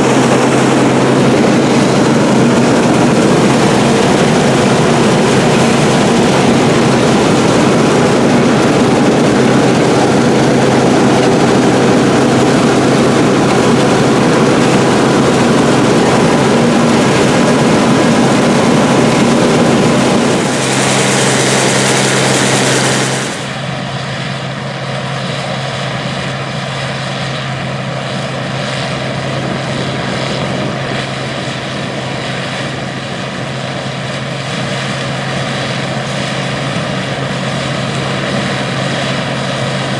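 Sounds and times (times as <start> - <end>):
combine harvester engine and threshing drone: 0.0 - 39.9.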